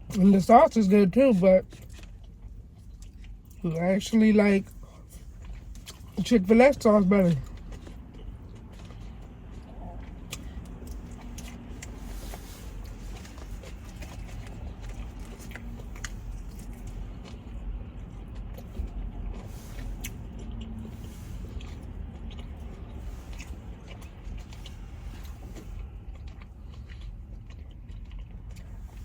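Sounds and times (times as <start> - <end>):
person chewing food: 0.0 - 29.0
steady low hum: 0.0 - 29.0.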